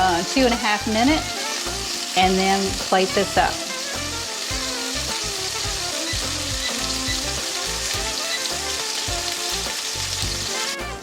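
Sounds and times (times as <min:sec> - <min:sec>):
background music: 0:00.0 - 0:11.0
fish sizzling in a skillet: 0:00.0 - 0:11.0.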